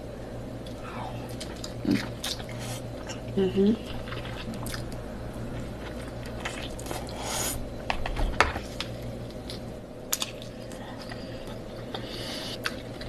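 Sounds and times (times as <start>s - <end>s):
wet mouth eating noises: 0.7s - 7.6s, 9.3s - 13.0s.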